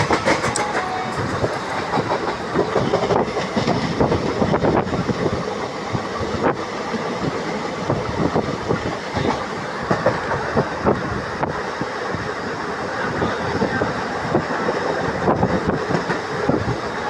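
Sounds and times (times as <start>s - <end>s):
train running over bridge: 0.0s - 17.0s.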